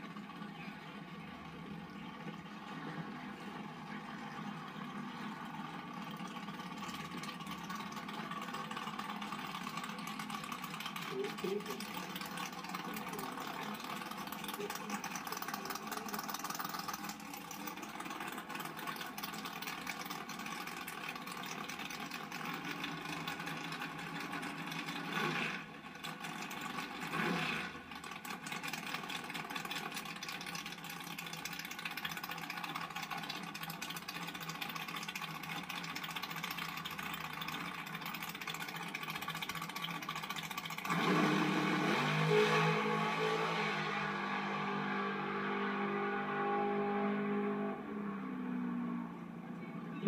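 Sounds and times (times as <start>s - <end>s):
dragster engine idling: 0.0s - 41.9s.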